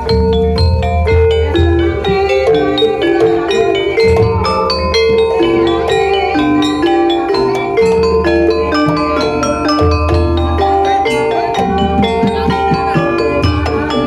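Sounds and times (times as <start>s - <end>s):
gamelan music: 0.0s - 14.0s.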